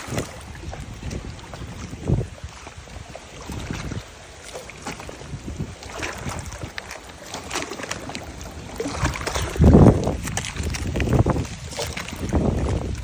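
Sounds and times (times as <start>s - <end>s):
water lapping and splashing: 0.0s - 13.0s
wind buffeting microphone: 0.0s - 13.0s.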